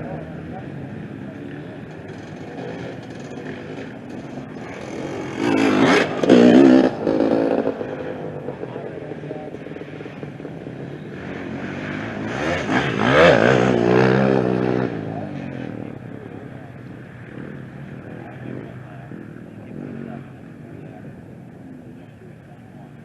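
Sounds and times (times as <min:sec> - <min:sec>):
motorcycle engine revving: 0:00.0 - 0:23.0
motorcycle passing by: 0:00.0 - 0:23.0.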